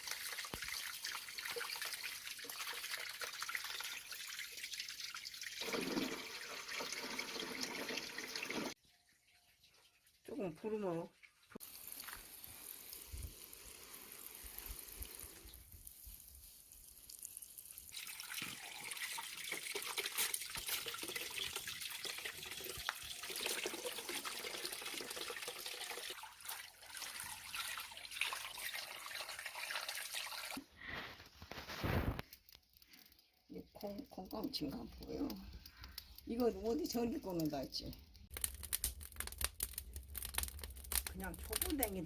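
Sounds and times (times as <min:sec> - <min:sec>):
water running and splashing: 0:00.0 - 0:30.6, 0:32.9 - 0:42.0.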